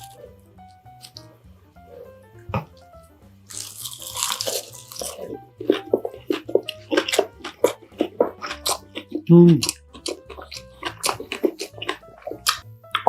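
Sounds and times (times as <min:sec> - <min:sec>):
background music: 0:00.0 - 0:13.0
chewing food: 0:00.0 - 0:13.0.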